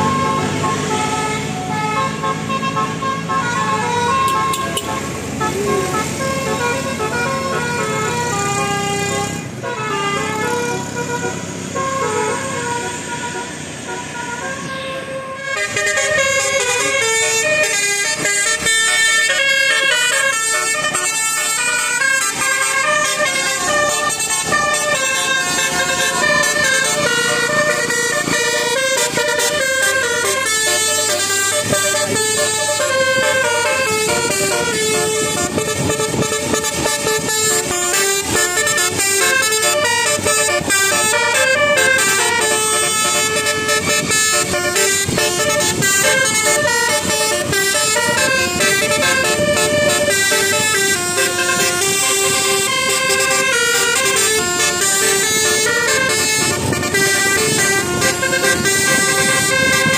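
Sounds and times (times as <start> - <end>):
multi-tone air horn melody: 0.0 - 59.9.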